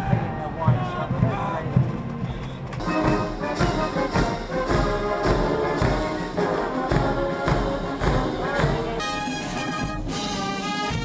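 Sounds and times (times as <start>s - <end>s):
bass drum beat: 0.0s - 10.2s
brass marching band: 0.0s - 11.0s.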